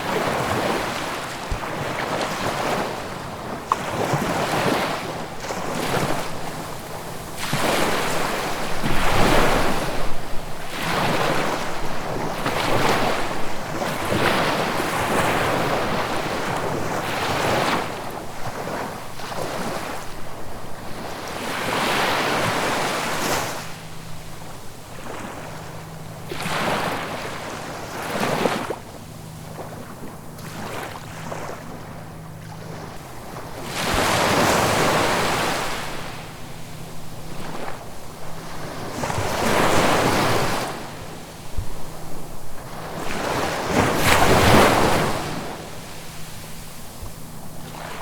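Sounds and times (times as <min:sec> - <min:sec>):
small waves washing onto shore: 0:00.0 - 0:48.0
wind: 0:00.0 - 0:48.0.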